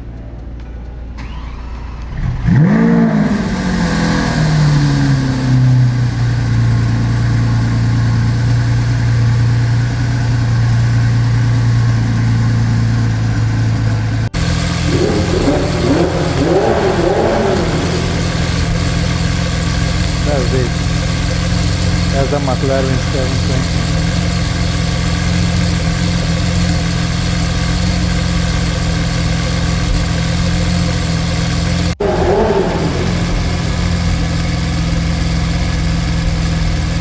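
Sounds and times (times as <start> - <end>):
car engine starting and idling: 0.0 - 37.0.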